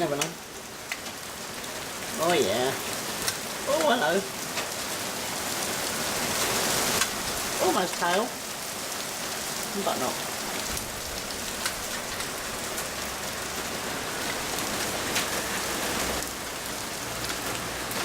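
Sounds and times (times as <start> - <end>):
heavy rain pouring: 0.0 - 18.0
raindrops ticking on a surface: 0.0 - 18.0.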